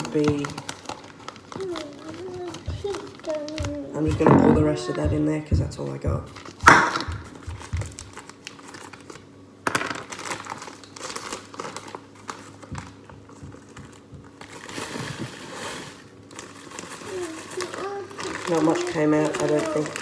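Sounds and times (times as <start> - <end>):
sugar bag crinkling: 0.0 - 5.1, 6.3 - 20.0.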